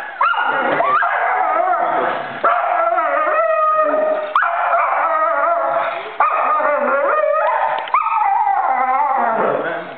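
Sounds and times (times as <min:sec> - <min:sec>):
dog yowling: 0:00.2 - 0:09.6.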